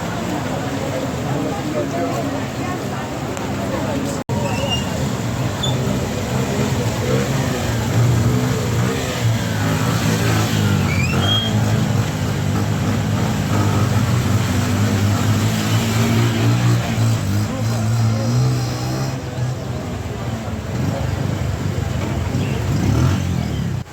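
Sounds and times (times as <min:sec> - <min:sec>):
street noise: 0:00.0 - 0:23.9
vehicle engine humming: 0:03.1 - 0:23.9.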